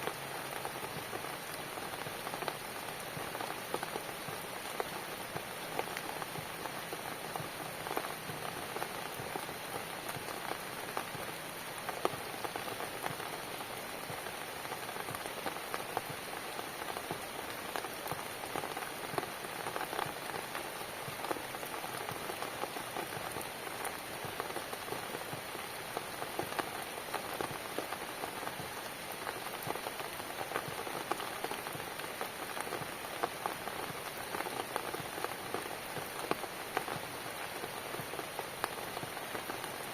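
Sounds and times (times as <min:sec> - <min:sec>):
sharp raindrop taps: 0:00.0 - 0:39.9
steady rainfall hiss: 0:00.0 - 0:39.9.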